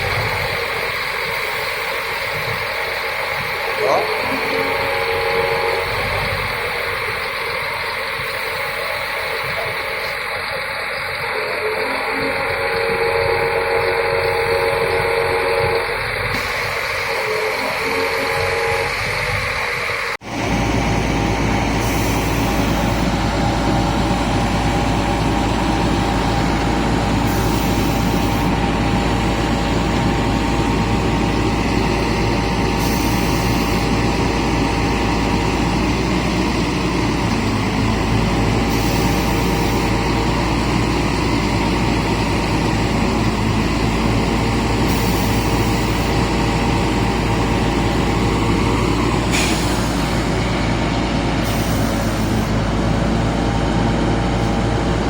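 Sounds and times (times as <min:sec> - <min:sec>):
hydraulic pump whine: 0:00.0 - 0:55.0
low mechanical rumble: 0:00.0 - 0:55.0.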